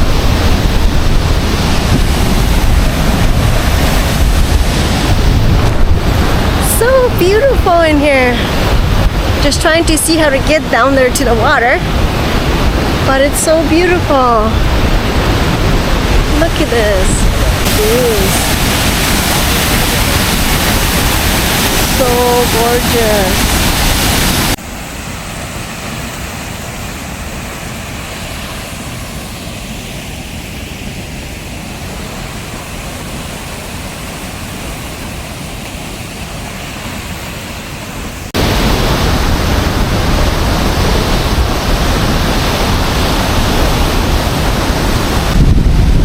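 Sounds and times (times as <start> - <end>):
waterfall roaring: 0.0 - 46.0.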